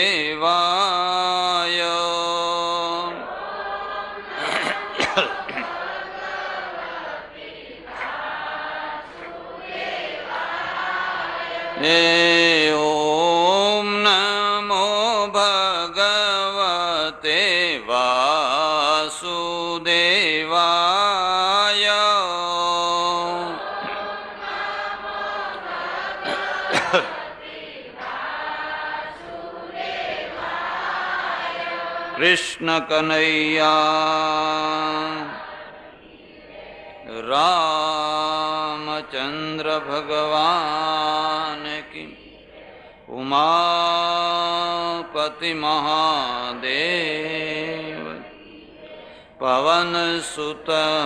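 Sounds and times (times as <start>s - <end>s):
group chanting in unison: 0.0s - 15.7s, 16.3s - 51.0s.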